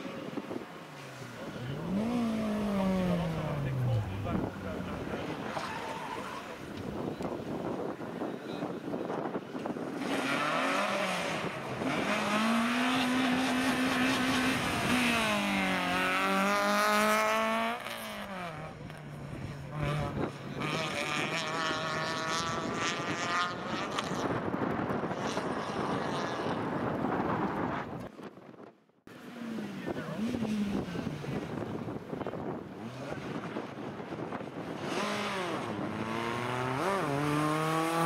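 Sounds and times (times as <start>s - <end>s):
rally car engine revving: 1.2s - 7.3s, 9.1s - 27.6s, 29.1s - 38.0s.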